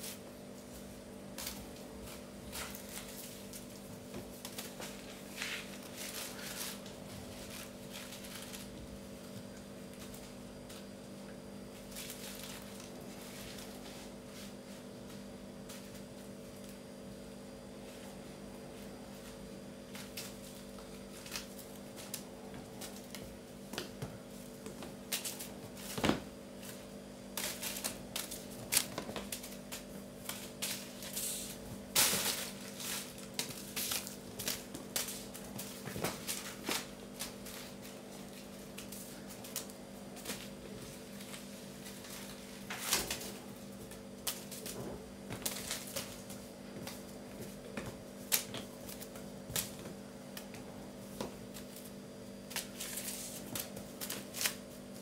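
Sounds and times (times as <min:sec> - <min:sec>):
paws and claws scrabbling on tile: 0:00.0 - 0:16.8, 0:17.8 - 0:55.0
steady low hum: 0:00.0 - 0:55.0.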